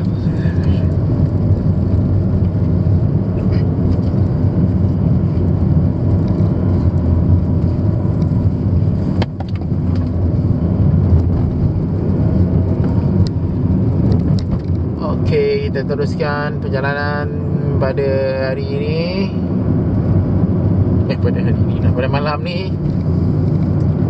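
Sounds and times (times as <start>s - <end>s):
car engine and tyre rumble: 0.0s - 24.0s.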